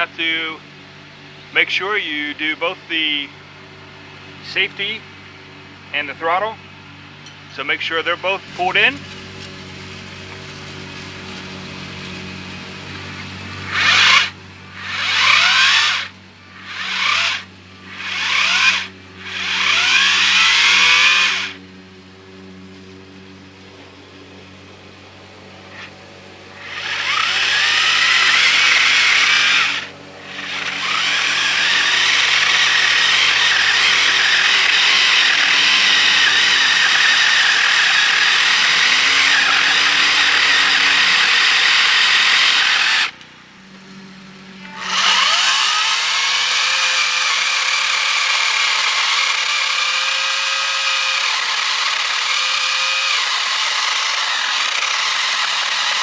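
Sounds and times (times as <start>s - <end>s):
pole saw cutting wood: 8.5s - 21.7s, 22.6s - 56.0s.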